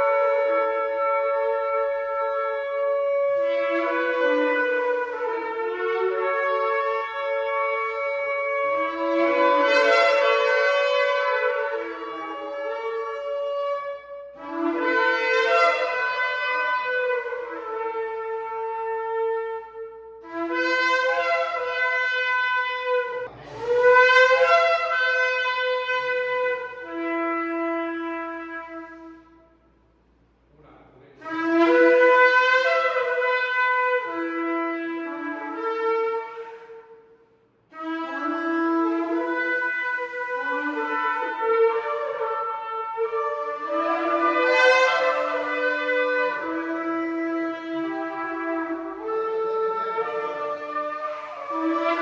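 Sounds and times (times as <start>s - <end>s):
ram's horn blasts: 0.0s - 29.8s, 30.4s - 52.0s.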